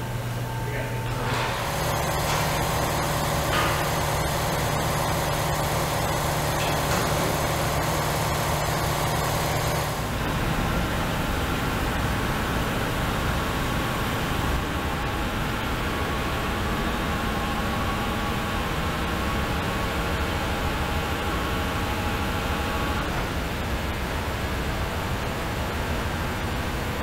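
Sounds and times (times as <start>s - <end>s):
tractor diesel engine running: 1.2s - 24.2s.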